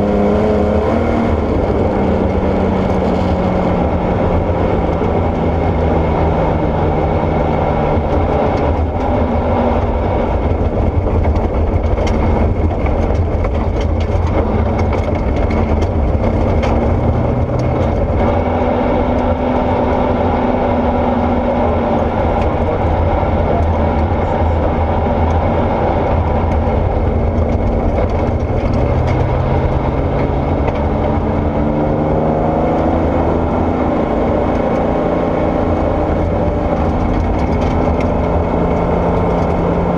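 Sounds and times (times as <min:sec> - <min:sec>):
rally car engine under load: 0:00.0 - 0:39.9.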